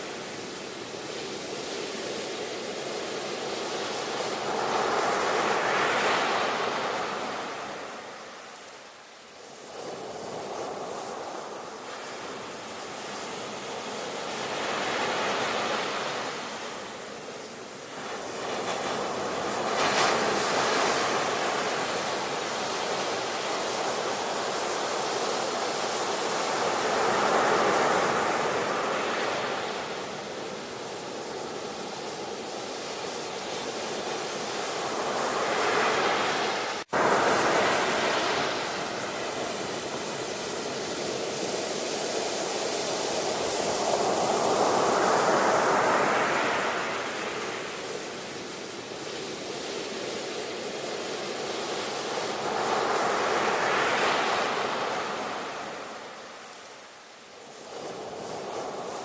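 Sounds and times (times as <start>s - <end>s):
ocean waves breaking: 9.4s - 59.0s.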